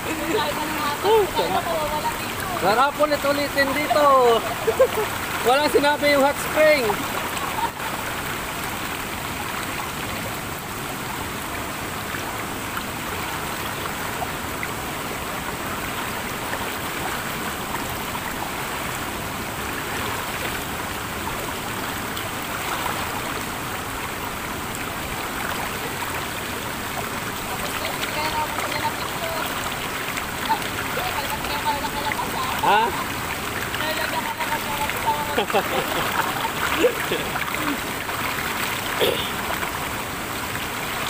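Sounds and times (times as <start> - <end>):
river water rushing over boulders: 0.0 - 41.0.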